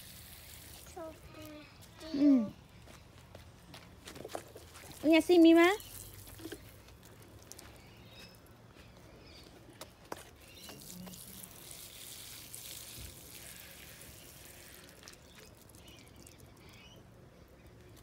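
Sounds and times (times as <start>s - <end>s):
water trickling onto soil: 0.0s - 2.0s, 4.0s - 18.0s.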